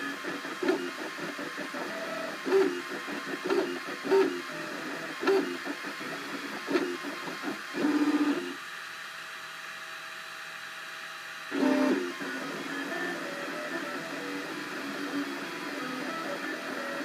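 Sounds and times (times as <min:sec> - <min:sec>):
printer stepper motors whirring: 0:00.0 - 0:08.7, 0:11.5 - 0:17.0
printer humming: 0:00.0 - 0:08.8, 0:11.1 - 0:17.0.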